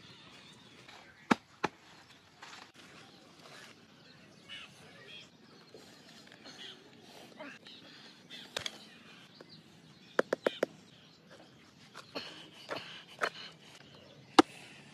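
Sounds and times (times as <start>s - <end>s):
birds chirping: 0.0s - 14.9s
outdoor background noise: 0.0s - 14.9s.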